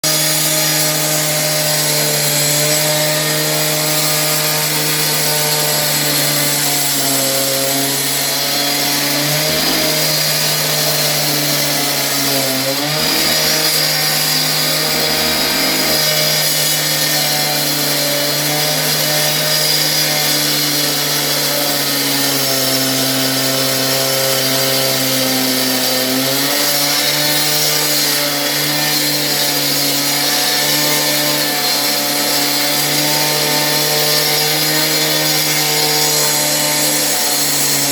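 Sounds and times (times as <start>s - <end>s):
power saw cutting concrete: 0.0s - 37.9s.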